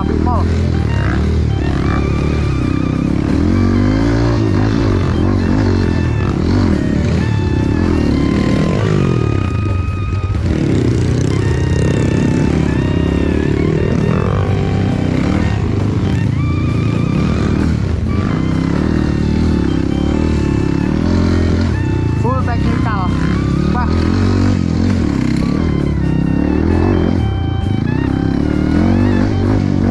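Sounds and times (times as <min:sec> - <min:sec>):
background music: 0:00.0 - 0:29.9
dirt bike engine revving: 0:00.0 - 0:29.9.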